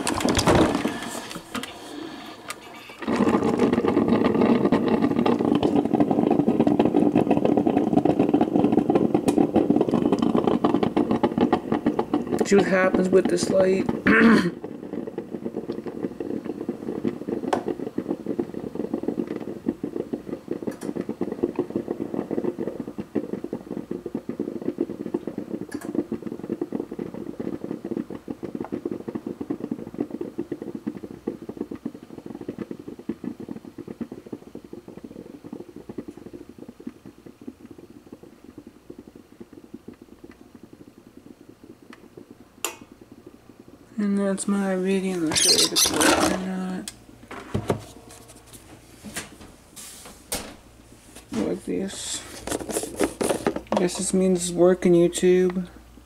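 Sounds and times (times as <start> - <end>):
coffee maker gurgling: 0.0 - 56.0.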